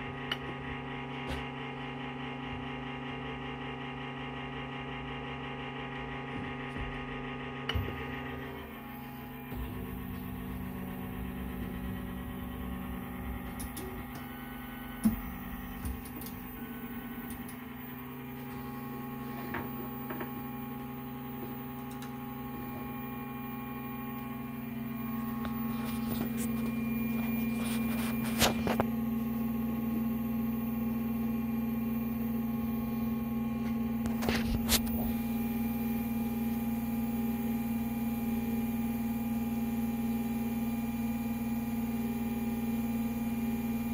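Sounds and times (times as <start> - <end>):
stepper motors humming and whining: 0.0 - 43.9.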